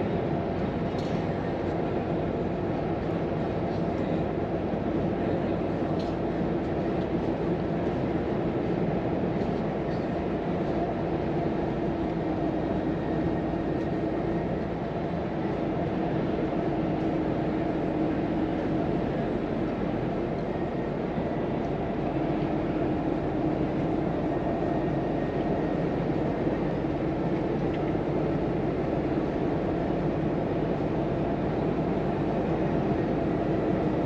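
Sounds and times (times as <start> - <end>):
truck diesel engine drone: 0.0 - 34.0.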